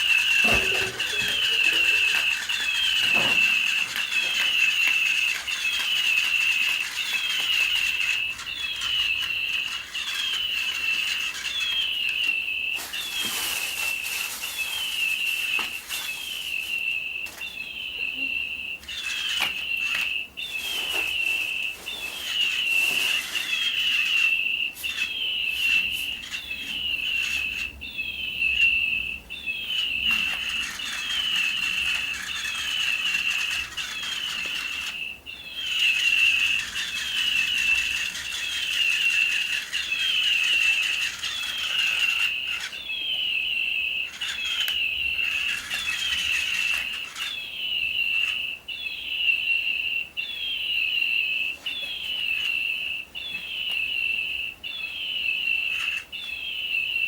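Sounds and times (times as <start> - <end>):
electronic toy bird chirping: 0.0 - 57.0.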